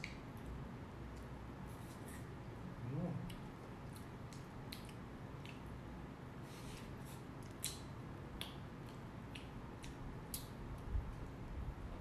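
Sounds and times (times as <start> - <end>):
soft eating sounds: 0.0 - 11.4
faint room hum: 0.0 - 12.0.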